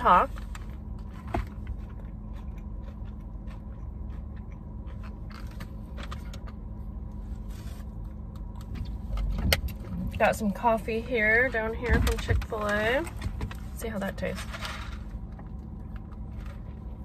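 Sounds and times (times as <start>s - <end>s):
car cabin hum: 0.0s - 17.0s.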